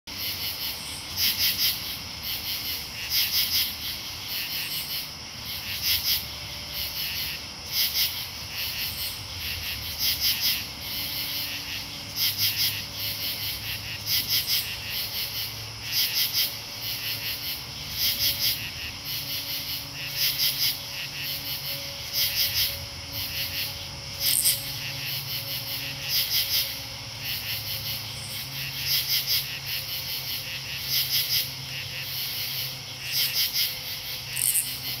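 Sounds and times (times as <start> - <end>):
high insect chorus: 0.1 - 35.0.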